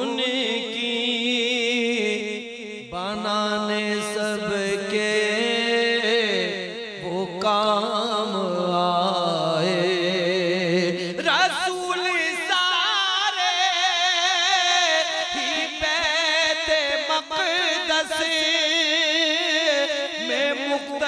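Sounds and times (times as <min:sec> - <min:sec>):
man singing melismatic lines: 0:00.0 - 0:21.0.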